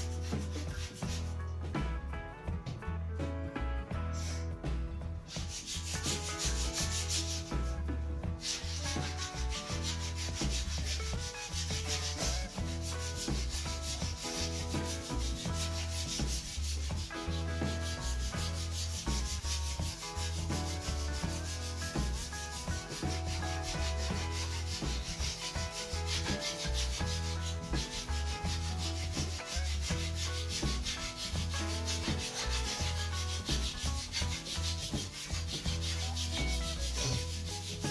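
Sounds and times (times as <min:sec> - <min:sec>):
sandpaper rubbing on wood: 0:00.0 - 0:01.4, 0:04.2 - 0:04.5, 0:05.3 - 0:07.7, 0:08.4 - 0:37.9.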